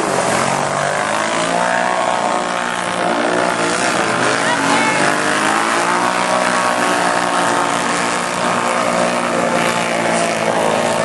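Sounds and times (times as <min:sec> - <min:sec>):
atv engines revving high: 0:00.0 - 0:11.0.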